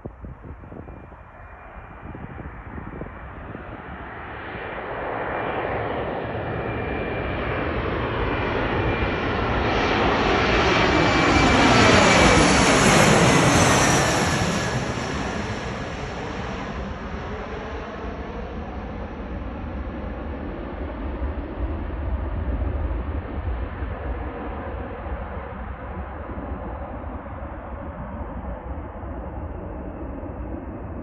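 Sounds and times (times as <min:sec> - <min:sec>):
jet engines whining and rumbling: 0:00.0 - 0:31.0.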